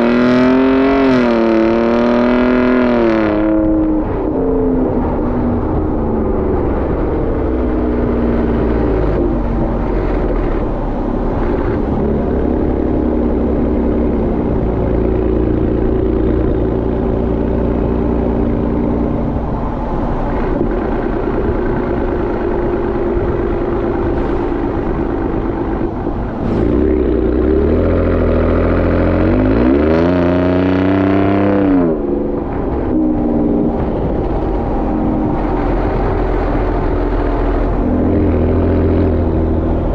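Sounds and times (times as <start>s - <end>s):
truck exhaust revving: 0.0s - 39.9s.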